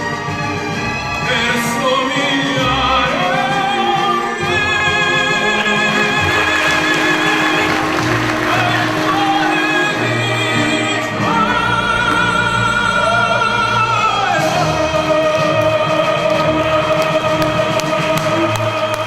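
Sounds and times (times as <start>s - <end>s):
operatic singing: 1.0s - 19.0s.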